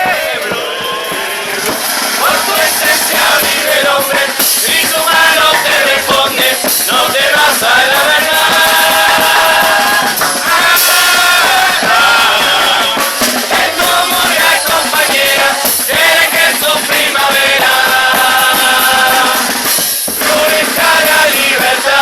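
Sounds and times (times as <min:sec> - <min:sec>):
chorus singing: 0:00.0 - 0:22.0
drums and cymbals: 0:00.0 - 0:22.0.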